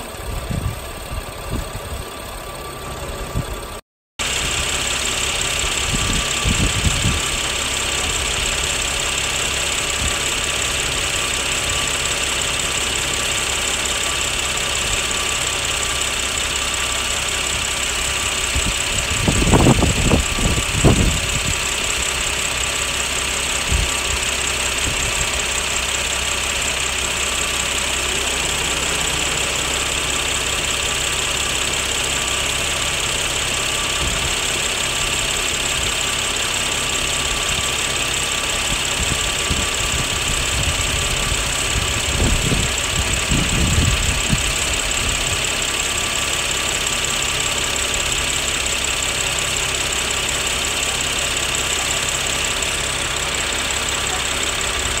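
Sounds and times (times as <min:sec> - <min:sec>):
ac compressor running: 0:00.0 - 0:55.0
car engine idling: 0:00.0 - 0:55.0
low rumbles: 0:00.0 - 0:55.0.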